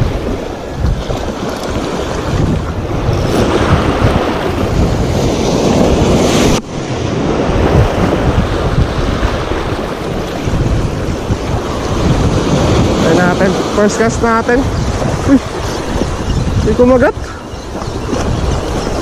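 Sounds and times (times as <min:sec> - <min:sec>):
surf washing over rocks: 0:00.0 - 0:19.0
wind buffeting microphone: 0:00.0 - 0:19.0.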